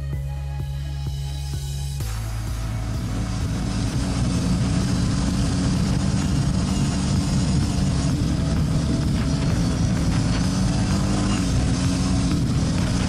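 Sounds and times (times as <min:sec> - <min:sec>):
quad bike engine running: 0:02.0 - 0:13.0.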